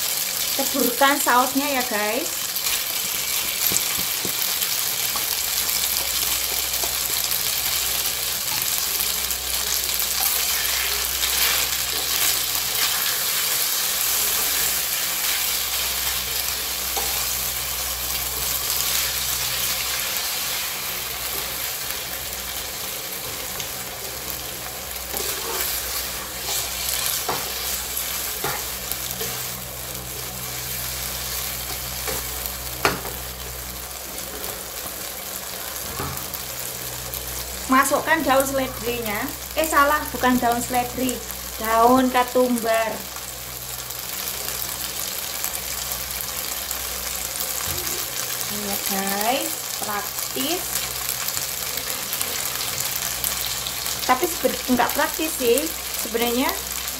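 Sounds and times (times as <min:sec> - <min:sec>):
pasta sizzling in frying pan: 0:00.0 - 0:56.9.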